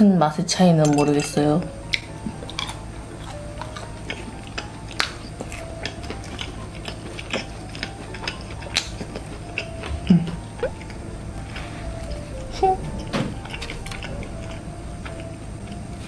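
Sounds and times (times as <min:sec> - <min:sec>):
chewing crispy food: 0:01.8 - 0:16.0.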